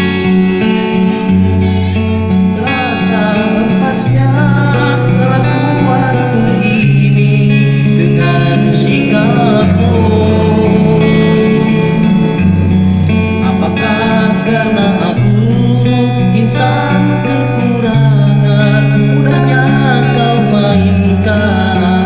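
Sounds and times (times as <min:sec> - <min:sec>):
guitar: 0:00.0 - 0:22.0
person singing: 0:00.0 - 0:22.0
sustained bass line: 0:00.0 - 0:22.0.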